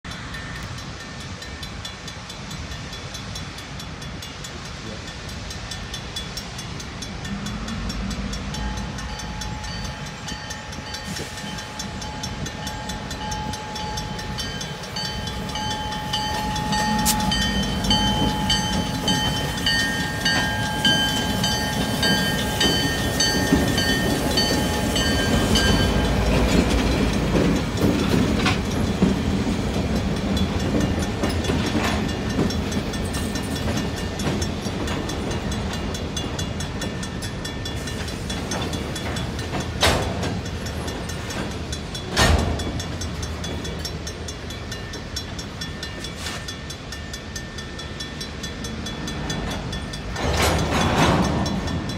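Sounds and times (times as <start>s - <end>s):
diesel locomotive rumble: 0.0s - 51.9s
freight cars clickety-clack: 0.0s - 51.9s
mechanical crossing bell ringing: 5.1s - 28.8s, 30.0s - 51.9s.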